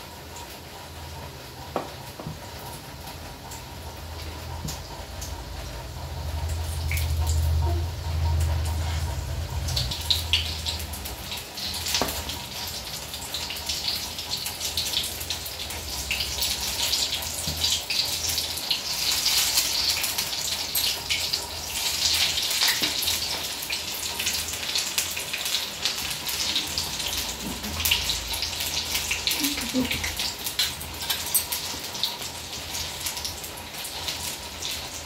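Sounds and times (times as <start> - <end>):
food deep-frying in oil: 0.0 - 35.0.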